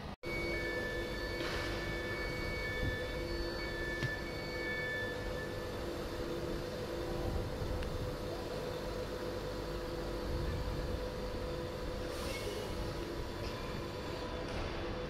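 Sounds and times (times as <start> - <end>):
electric train equipment humming: 0.0 - 15.0.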